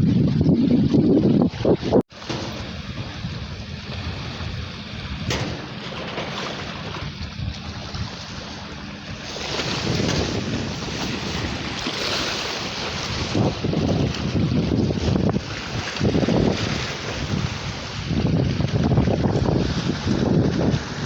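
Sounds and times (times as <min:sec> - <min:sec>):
sea surf washing: 0:00.0 - 0:21.0
wind buffeting microphone: 0:00.0 - 0:21.0.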